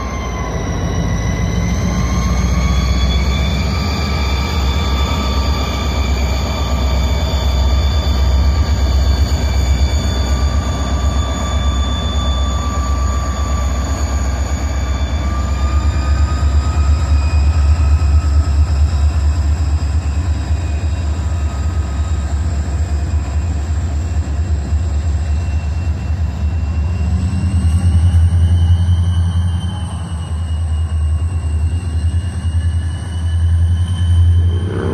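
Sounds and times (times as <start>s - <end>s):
locomotive engine rumble: 0.0s - 34.9s
turbochargers whining: 0.0s - 34.9s.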